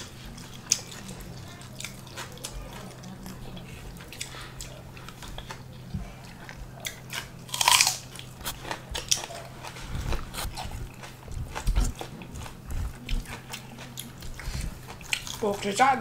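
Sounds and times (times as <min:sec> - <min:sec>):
faint low hum: 0:00.0 - 0:16.0
people chewing and crunching food: 0:00.0 - 0:16.0.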